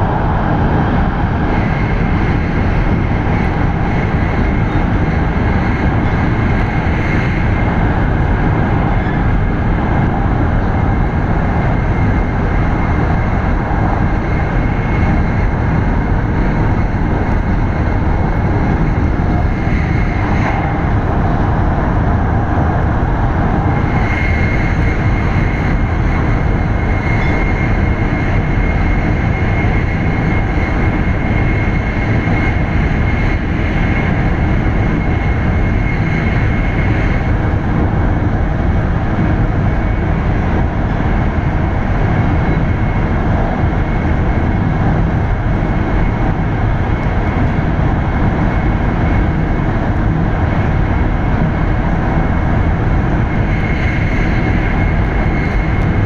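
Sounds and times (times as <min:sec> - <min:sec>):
train running noise inside cabin: 0:00.0 - 0:56.0.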